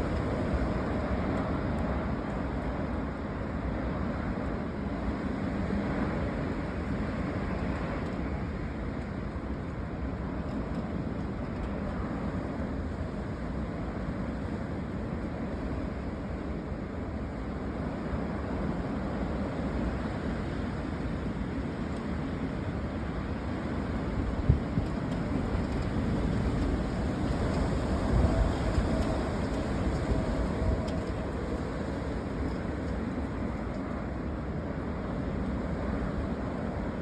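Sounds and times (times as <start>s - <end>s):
dust storm wind blowing hard: 0.0s - 37.0s.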